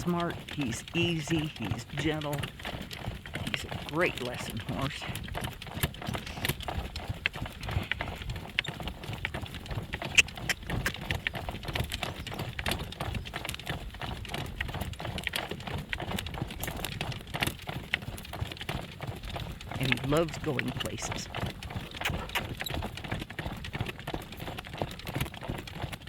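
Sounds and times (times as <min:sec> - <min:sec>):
horse hoofbeats clip-clopping: 0:00.0 - 0:26.0.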